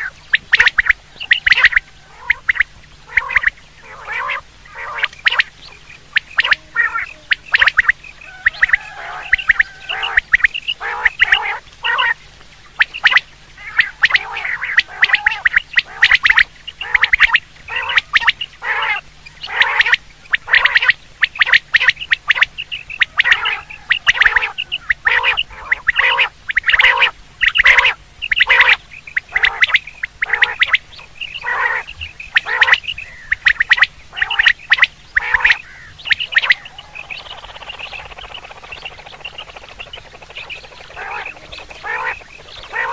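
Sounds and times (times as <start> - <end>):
quail calls: 0.0 - 42.9.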